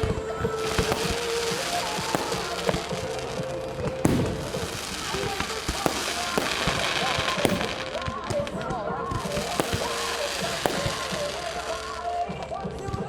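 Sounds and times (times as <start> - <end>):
continuous crackling hiss: 0.0 - 13.0
fireworks bangs: 0.0 - 13.0.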